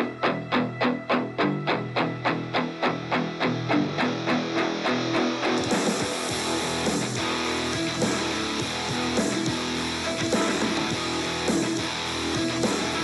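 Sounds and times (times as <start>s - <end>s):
band music: 0.0s - 13.0s
plucked guitar notes: 0.0s - 13.0s.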